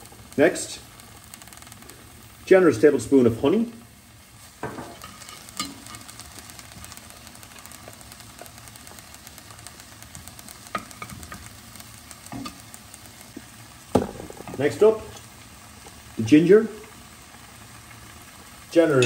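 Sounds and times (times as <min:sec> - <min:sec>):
cabbage sizzling in pot: 0:00.0 - 0:19.0.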